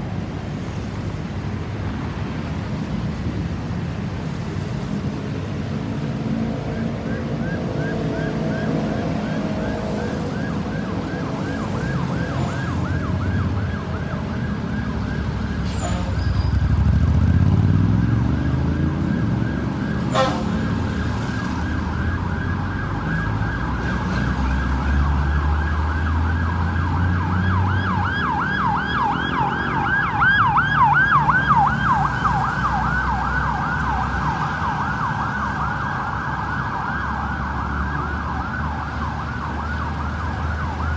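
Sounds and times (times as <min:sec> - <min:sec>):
vehicle engine noise: 0:00.0 - 0:40.9
ambulance siren yelping: 0:06.2 - 0:40.9.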